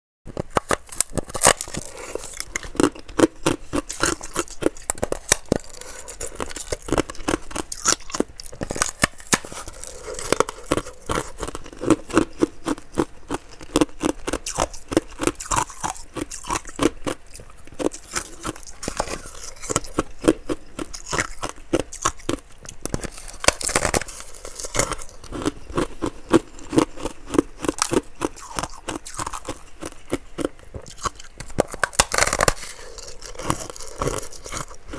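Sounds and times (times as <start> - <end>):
ice crunching being chewed: 0.3 - 34.9.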